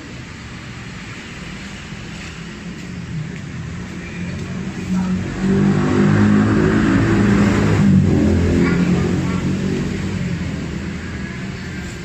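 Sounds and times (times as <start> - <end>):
vehicle engine passing by: 1.1 - 12.0.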